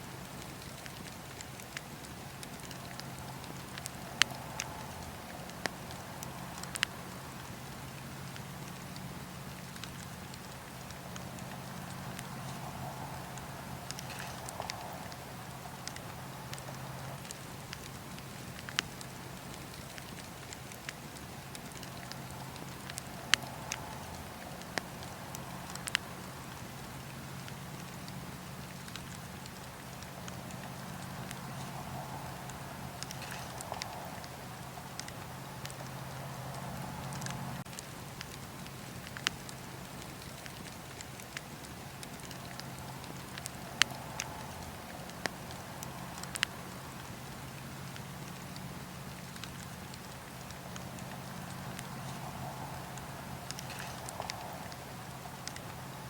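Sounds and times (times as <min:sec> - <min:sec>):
fire low rumble: 0:00.0 - 0:56.0
wood fire crackling and popping: 0:00.0 - 0:56.0.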